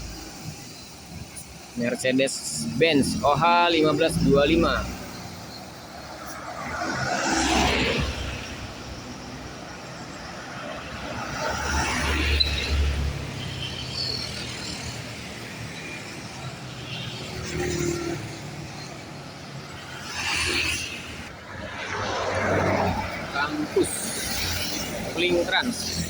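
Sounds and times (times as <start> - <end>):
bus diesel engine rumbling: 0.0 - 17.0, 21.0 - 26.0
passing vehicles: 0.0 - 26.0.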